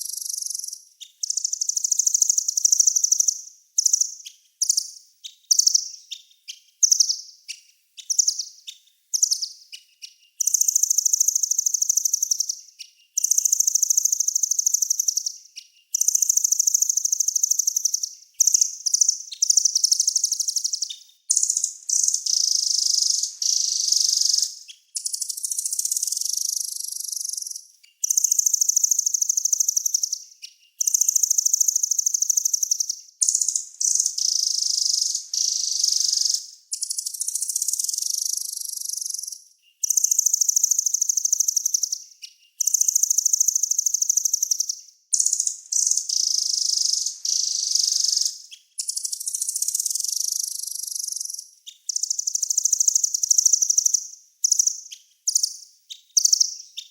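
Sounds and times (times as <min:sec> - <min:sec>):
songbird high trilling song: 0:00.0 - 0:56.9.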